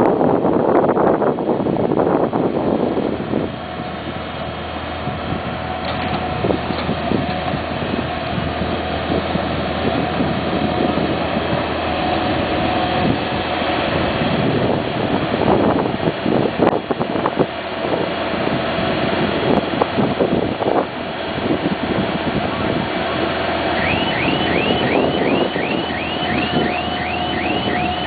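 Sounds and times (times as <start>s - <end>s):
motor grader engine running: 0.1s - 28.0s.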